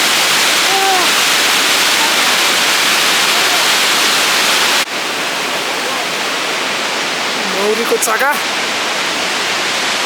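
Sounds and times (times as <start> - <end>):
fast-flowing river rushing: 0.0 - 10.0.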